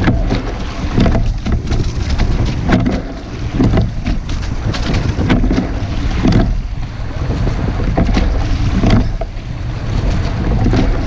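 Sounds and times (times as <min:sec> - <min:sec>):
oars knocking in oarlocks: 0:00.0 - 0:11.0
water along hull: 0:00.0 - 0:11.0
wind on microphone: 0:00.0 - 0:11.0.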